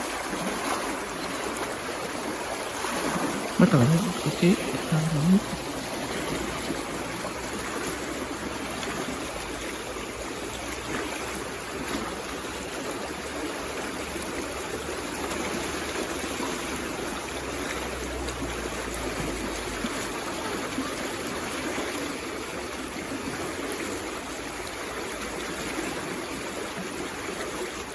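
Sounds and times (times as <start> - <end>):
water stream flowing: 0.0 - 27.9.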